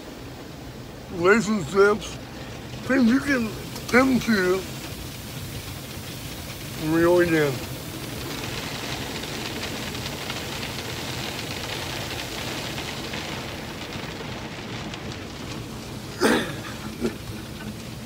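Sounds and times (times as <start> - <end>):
car wash water spray and brushes: 0.0 - 18.0.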